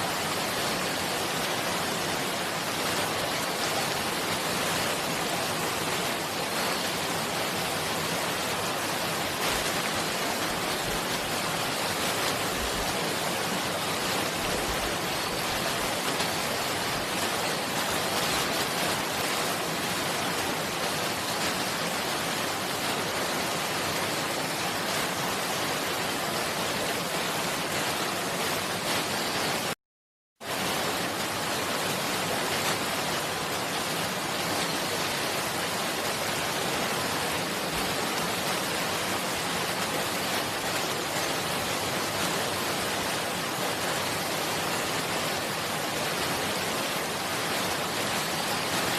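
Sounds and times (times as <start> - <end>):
running water rushing: 0.0 - 29.8, 30.4 - 48.9.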